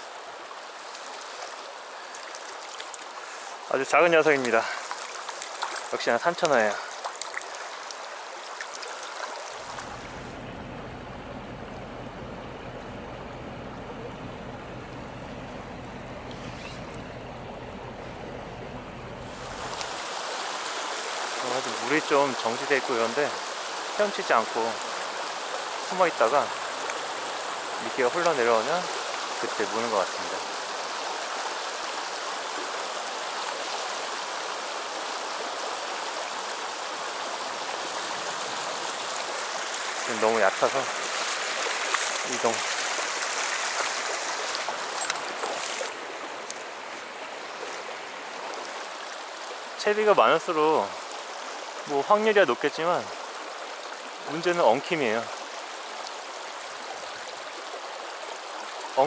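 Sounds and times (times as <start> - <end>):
muffled underwater stream water: 0.0 - 59.0.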